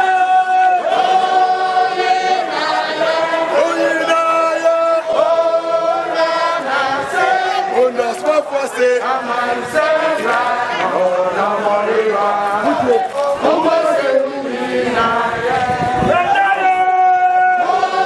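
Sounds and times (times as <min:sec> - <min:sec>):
group of voices chanting: 0:00.0 - 0:18.0.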